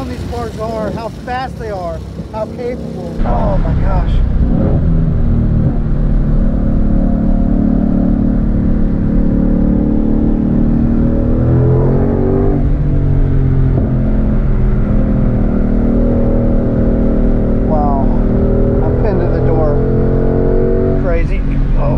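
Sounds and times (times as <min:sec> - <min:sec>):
car engine pulling hard: 0:00.0 - 0:21.9
road noise: 0:00.0 - 0:21.9.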